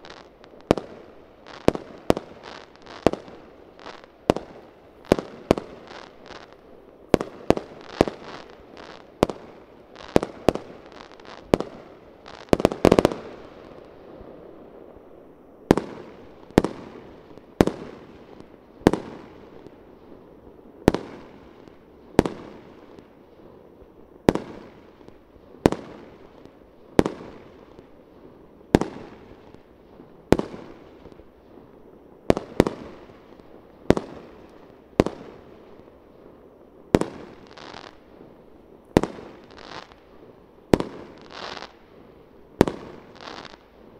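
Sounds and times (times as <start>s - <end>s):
fireworks bursting with sharp bangs: 0.0s - 43.9s.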